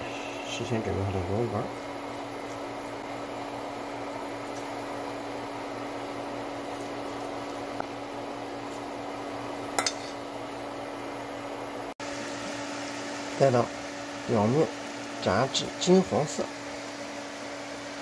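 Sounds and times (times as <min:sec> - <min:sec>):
deep-frying sizzle in oil: 0:00.0 - 0:18.0.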